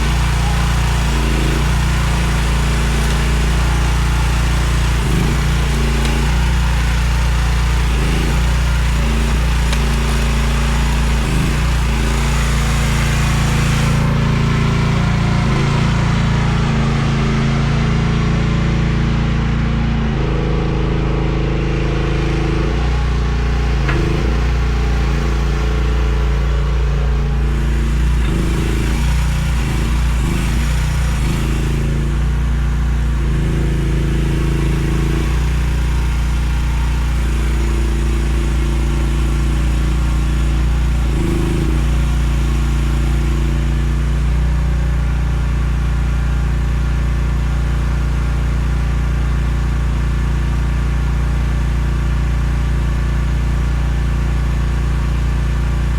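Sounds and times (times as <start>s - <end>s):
small diesel engine running: 0.0s - 55.9s.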